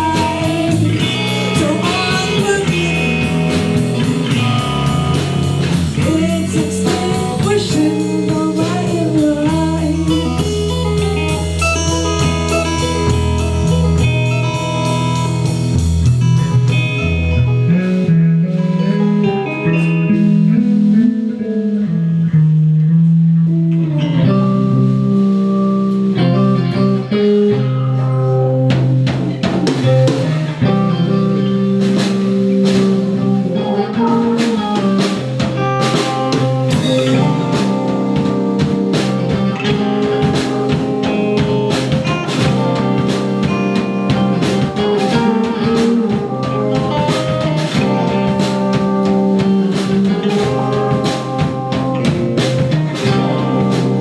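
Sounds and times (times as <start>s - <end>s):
drum kit beat: 0.0s - 21.0s, 27.7s - 54.0s
bass guitar notes: 0.0s - 54.0s
electric guitar: 0.0s - 54.0s.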